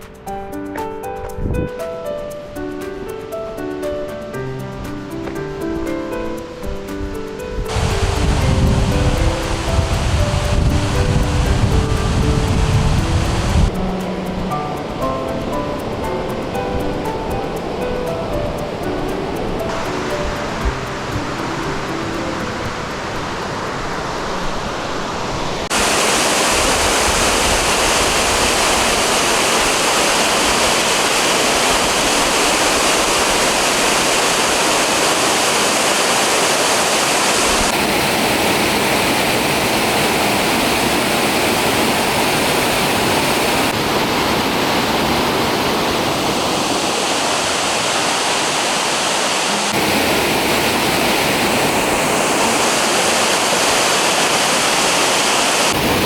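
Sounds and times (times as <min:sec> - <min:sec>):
waterfall rushing: 0:07.5 - 0:56.0.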